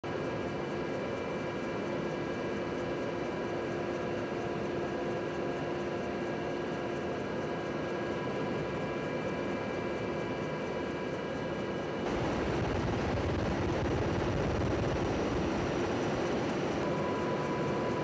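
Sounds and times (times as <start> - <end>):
helicopter engine and rotor noise: 0.0 - 18.0.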